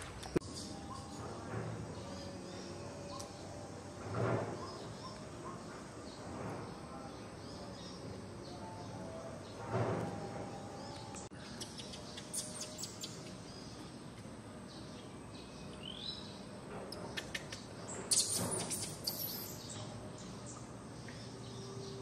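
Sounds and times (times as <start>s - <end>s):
outdoor background hiss: 0.0s - 22.0s
small birds chirping: 0.1s - 3.8s, 4.5s - 9.6s, 10.4s - 22.0s.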